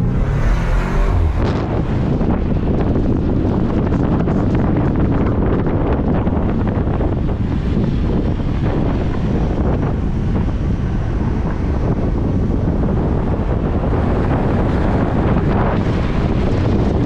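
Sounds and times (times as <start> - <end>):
road and engine noise: 0.0 - 17.0
wind buffeting microphone: 0.0 - 17.0.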